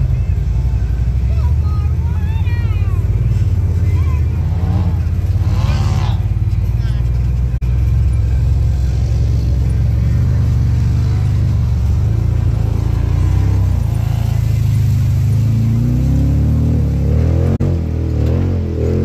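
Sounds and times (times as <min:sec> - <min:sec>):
engine rumbling and revving: 0:00.0 - 0:19.0.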